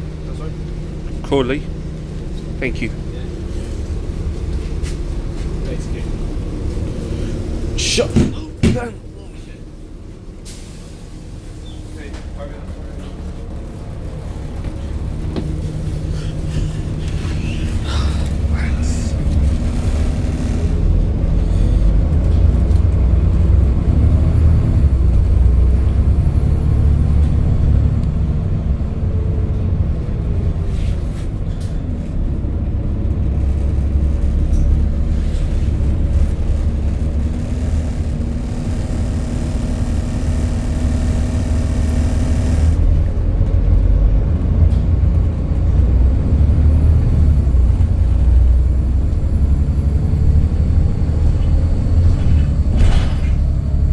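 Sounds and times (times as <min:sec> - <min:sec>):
bus engine rumbling: 0:00.0 - 0:53.9.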